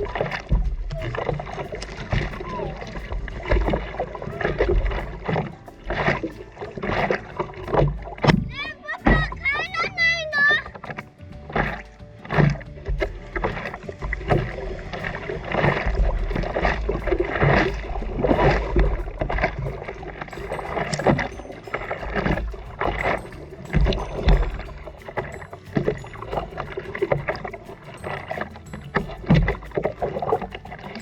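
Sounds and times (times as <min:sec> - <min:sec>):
sea water splashing and rushing: 0:00.0 - 0:31.0.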